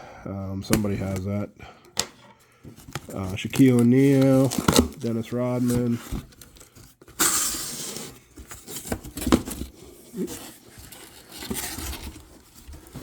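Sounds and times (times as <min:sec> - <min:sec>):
packaging rustling: 0:00.7 - 0:13.0.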